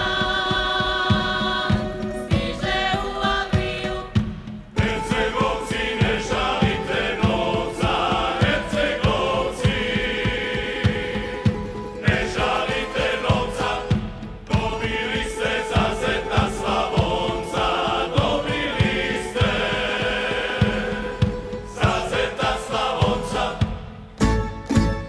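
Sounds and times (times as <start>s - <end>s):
choir singing a folk song: 0.0s - 25.0s.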